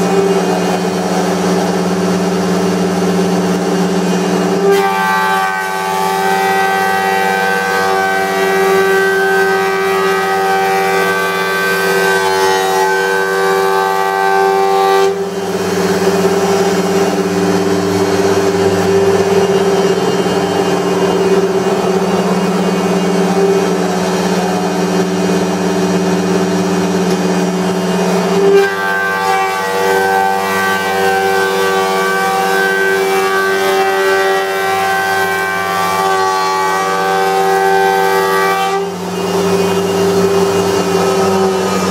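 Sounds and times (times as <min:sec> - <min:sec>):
planer motor and cutter whine: 0:00.0 - 0:41.9.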